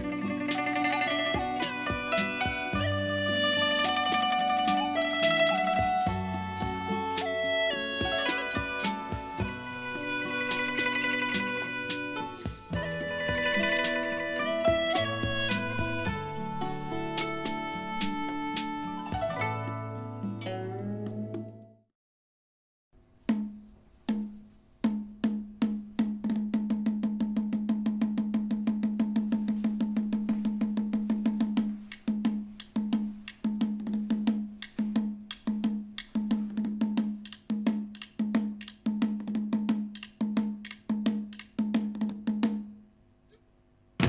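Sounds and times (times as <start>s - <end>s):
pitched drum strikes: 0.0s - 19.8s, 23.3s - 42.7s.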